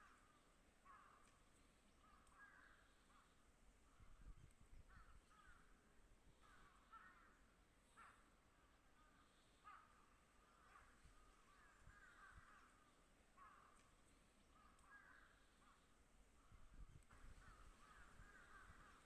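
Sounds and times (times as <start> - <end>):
bird calling faintly: 0.0 - 19.0.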